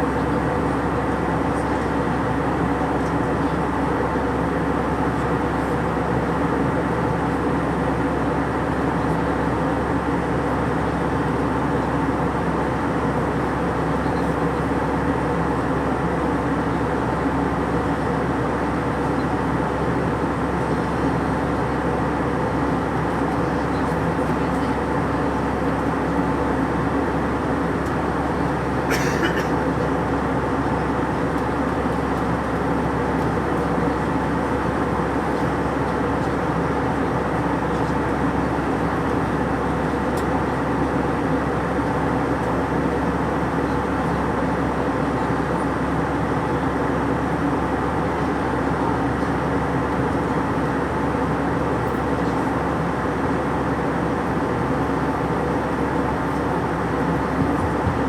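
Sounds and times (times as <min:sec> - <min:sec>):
aircraft cabin air rush and hum: 0:00.0 - 0:58.0.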